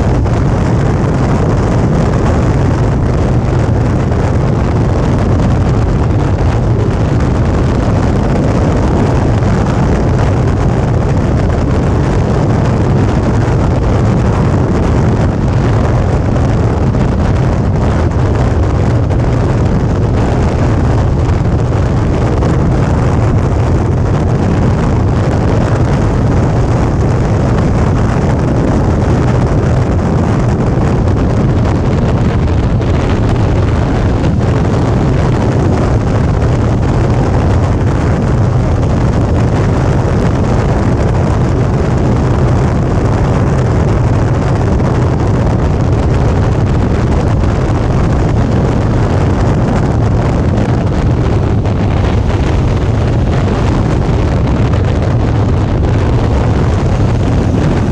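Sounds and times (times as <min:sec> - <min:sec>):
motorcycle engine running: 0:00.0 - 0:57.9
wind noise on microphone: 0:00.0 - 0:57.9.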